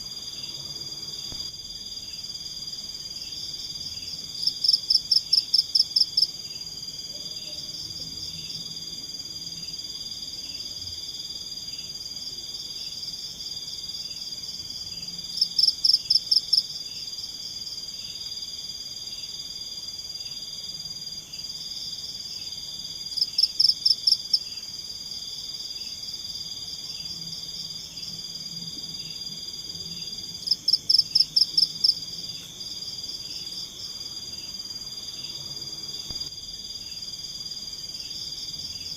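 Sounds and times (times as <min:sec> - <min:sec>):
insects and frogs trilling: 0:00.0 - 0:38.9.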